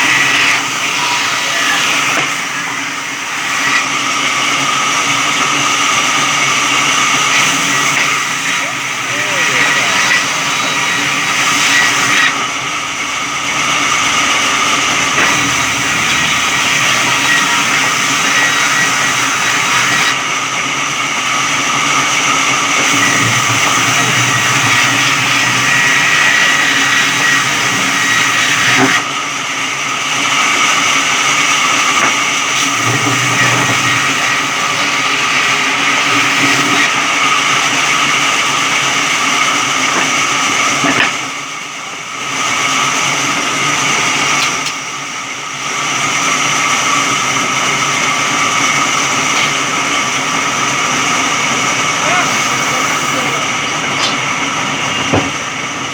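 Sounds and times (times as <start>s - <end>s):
electric sawmill cutting log: 0.0s - 55.9s.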